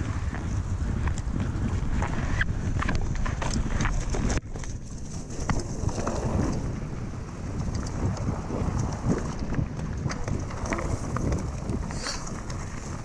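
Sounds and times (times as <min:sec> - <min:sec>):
bike tyre crunch on dirt: 0:00.0 - 0:13.0
wind rumble on microphone: 0:00.0 - 0:13.0
bike rattling clicks: 0:00.9 - 0:06.7, 0:07.5 - 0:13.0.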